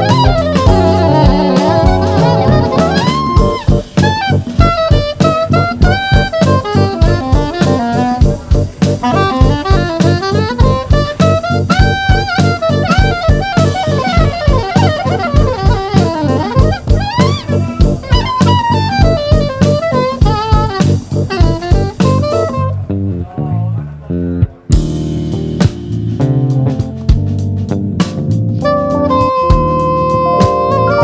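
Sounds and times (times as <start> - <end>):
drum kit beat: 0.0 - 23.1, 24.4 - 31.0
saxophone melody: 0.0 - 23.1, 28.5 - 31.0.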